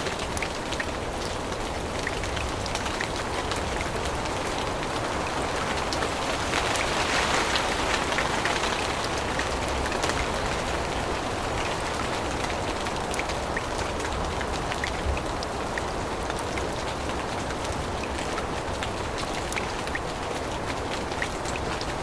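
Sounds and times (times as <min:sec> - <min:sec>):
rain on leaves: 0:00.0 - 0:22.0.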